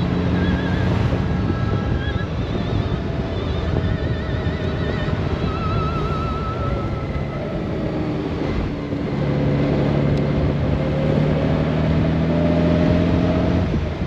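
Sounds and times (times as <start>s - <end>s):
motorcycle engine accelerating: 0.0s - 14.0s
wind and road noise: 0.0s - 14.0s.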